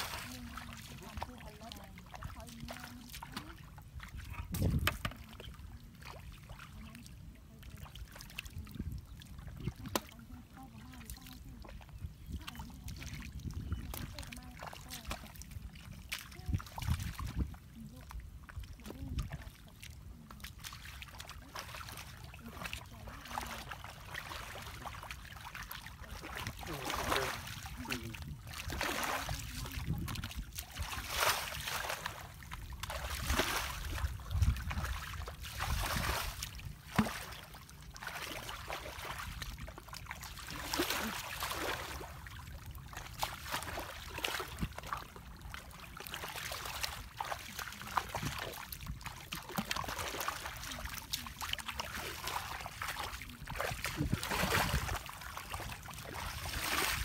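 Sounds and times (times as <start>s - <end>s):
feet wading through muddy water: 0.0s - 57.0s.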